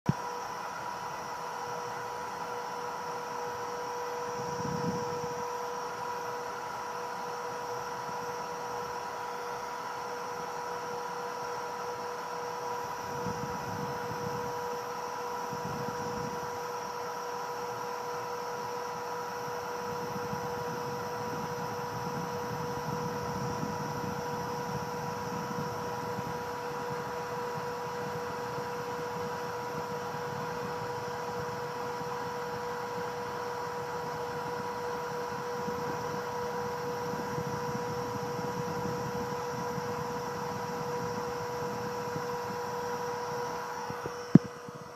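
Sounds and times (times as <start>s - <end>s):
router spindle whining: 0.1s - 44.9s.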